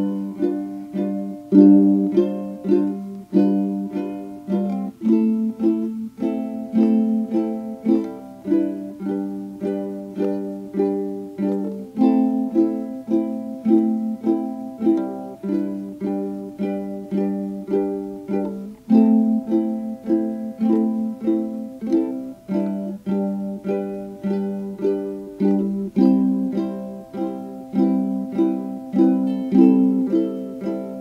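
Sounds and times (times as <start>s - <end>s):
plucked string instrument music: 0.0s - 31.0s.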